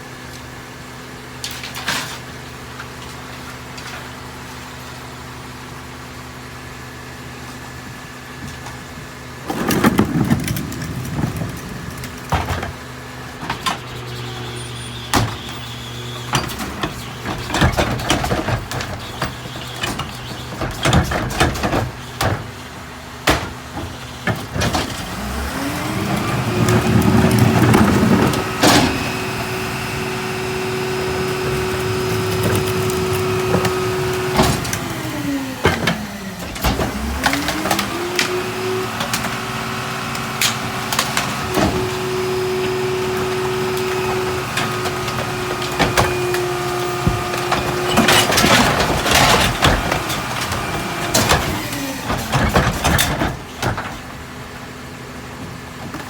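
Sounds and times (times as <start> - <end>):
garbage truck engine: 0.0 - 56.0
hydraulic packer running: 0.0 - 56.0
trash banging and clattering: 7.4 - 56.0.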